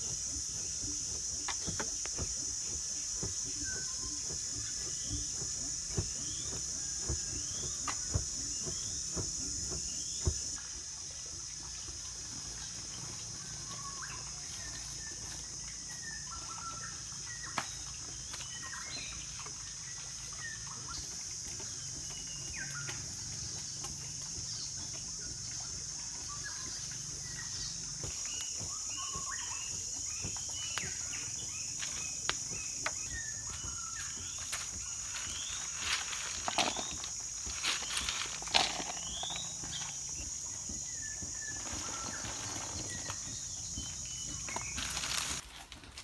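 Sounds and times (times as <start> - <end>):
bird chirps: 0.0 - 45.4
insect drone: 0.0 - 46.0.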